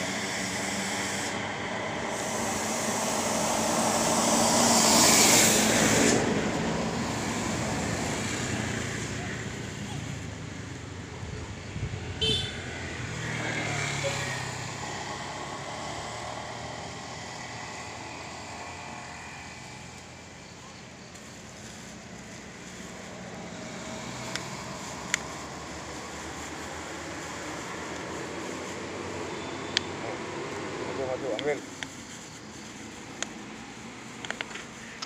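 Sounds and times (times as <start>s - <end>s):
passing vehicle engine hum: 0.0s - 35.0s
traffic rumble: 0.0s - 35.0s.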